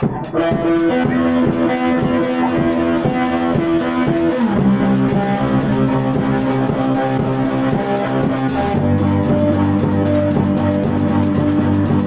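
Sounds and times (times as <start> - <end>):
rock music with guitar bass drums: 0.0 - 12.0.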